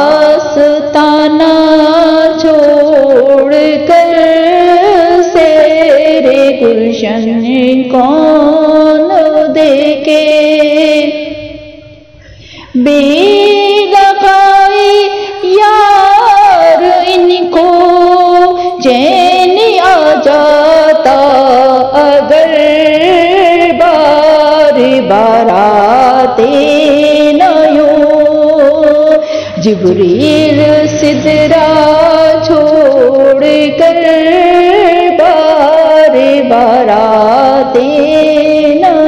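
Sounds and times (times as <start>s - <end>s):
person singing devotional song: 0.0s - 39.0s.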